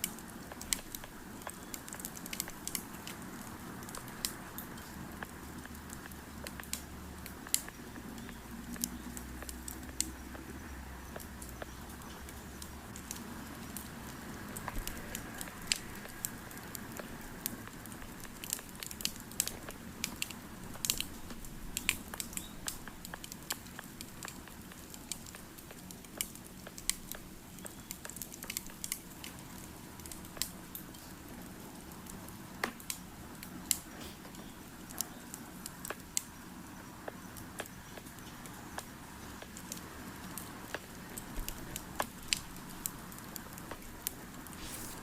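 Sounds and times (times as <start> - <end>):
campfire crackling: 0.0 - 45.0.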